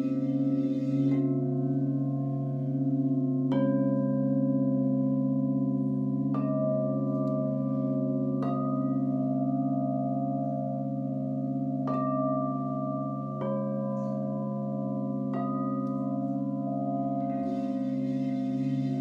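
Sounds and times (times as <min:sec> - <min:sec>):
bowl being struck: 0:00.0 - 0:19.0
crystal singing bowls ringing: 0:00.0 - 0:19.0.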